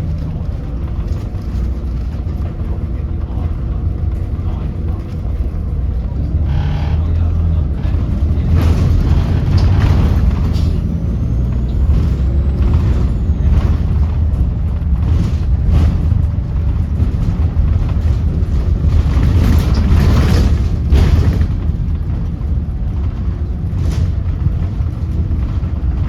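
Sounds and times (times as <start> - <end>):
bus diesel engine droning: 0.0 - 26.0.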